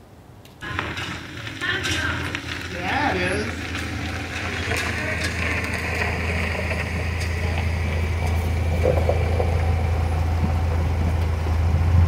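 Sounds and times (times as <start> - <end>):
pickup truck engine running: 0.6 - 12.0.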